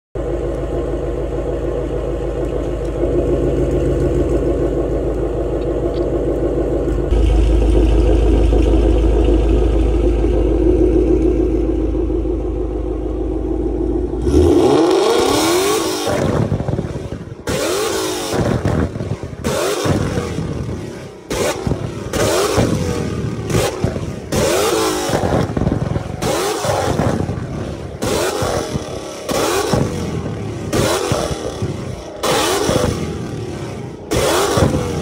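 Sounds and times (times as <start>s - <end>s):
car exhaust idling: 0.2s - 35.0s
engine revving: 2.4s - 35.0s.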